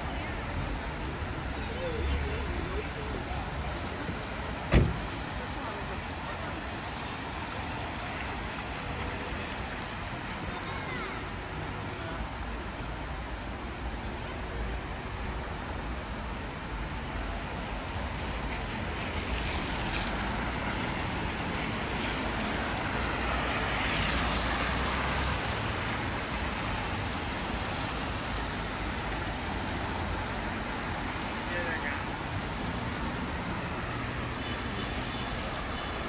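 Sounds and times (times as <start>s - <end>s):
wet street noise: 0.0s - 36.0s.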